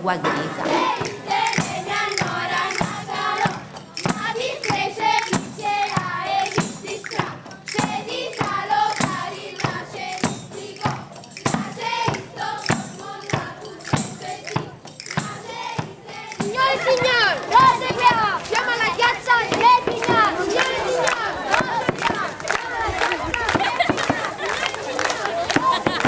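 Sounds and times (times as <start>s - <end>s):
frame drum beat: 0.0s - 26.0s
voices singing: 0.0s - 26.0s.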